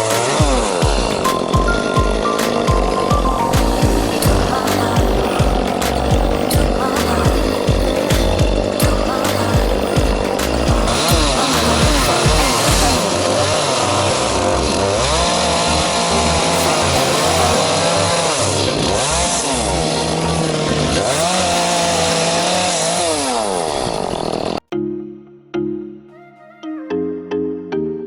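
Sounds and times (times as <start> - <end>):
background music: 0.0 - 22.7, 24.7 - 28.0
chainsaw revving while cutting: 0.0 - 24.6.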